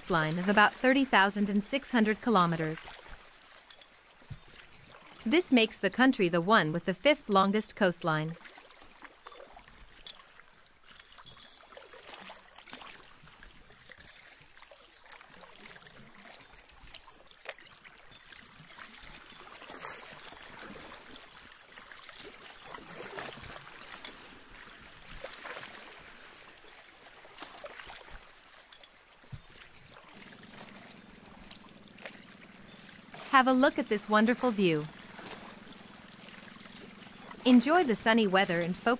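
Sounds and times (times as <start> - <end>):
water lapping against boat hull: 0.0 - 38.9.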